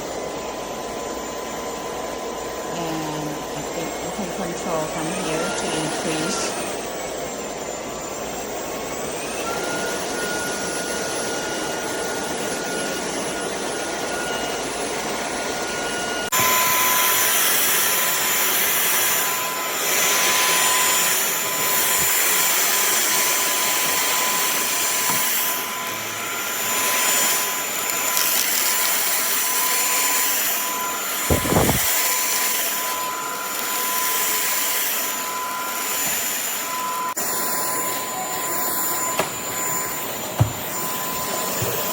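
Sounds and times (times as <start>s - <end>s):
vacuum motor whining: 0.0s - 41.9s.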